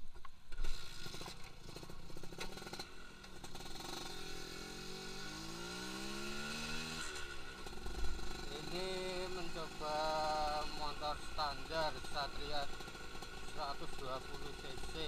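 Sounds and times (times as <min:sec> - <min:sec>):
two-stroke engine revving: 0:00.5 - 0:15.0.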